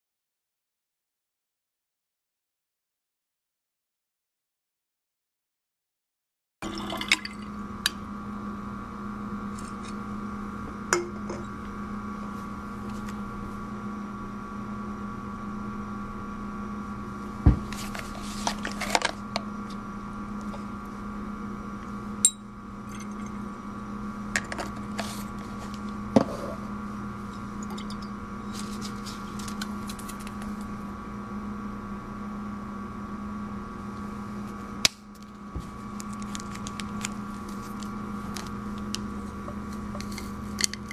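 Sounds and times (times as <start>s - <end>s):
electrical hum: 6.6s - 40.9s.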